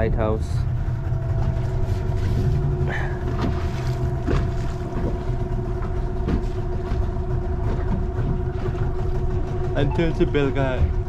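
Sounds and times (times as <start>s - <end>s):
motorboat engine humming: 0.0s - 11.0s
hull slapping waves: 0.6s - 11.0s.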